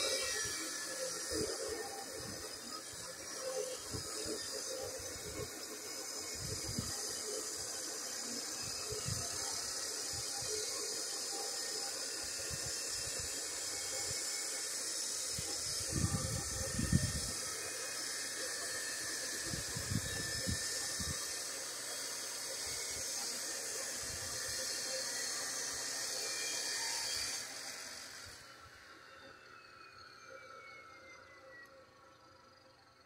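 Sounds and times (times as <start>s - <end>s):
high-pitched outdoor hiss: 0.0s - 33.0s.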